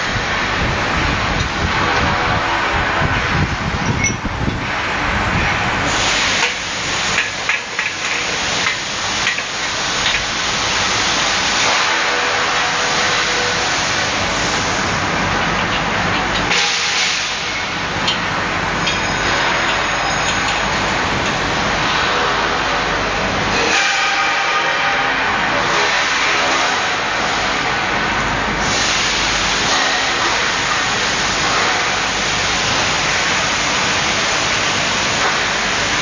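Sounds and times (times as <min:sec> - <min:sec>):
air conditioner air rush: 0:00.0 - 0:36.0.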